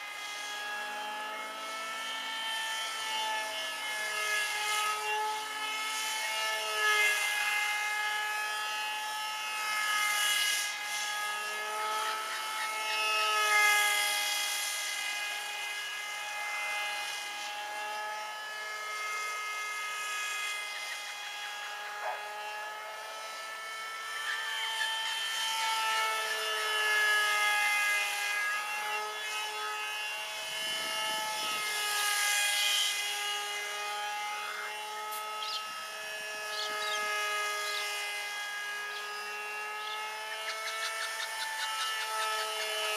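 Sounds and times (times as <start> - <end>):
model jet motor whining: 0.0 - 42.9.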